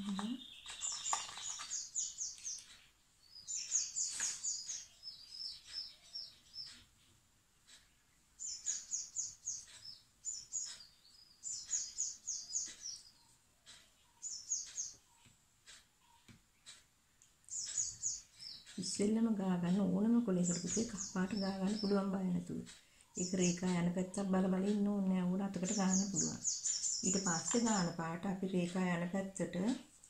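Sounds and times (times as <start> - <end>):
bird chirping: 0.0 - 29.7.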